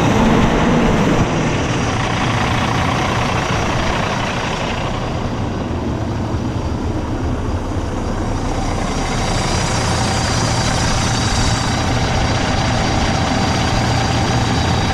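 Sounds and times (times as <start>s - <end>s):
diesel engine idling: 0.0s - 14.9s
high steady whine: 0.0s - 14.9s.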